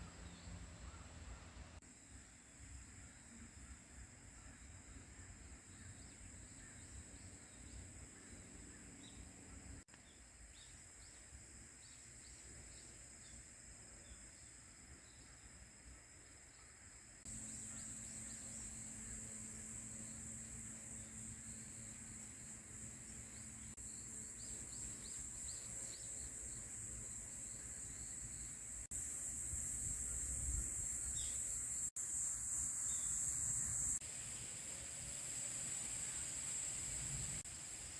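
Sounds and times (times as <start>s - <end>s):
insects chirring: 1.8s - 37.9s
faint short insect chirps: 1.9s - 37.9s.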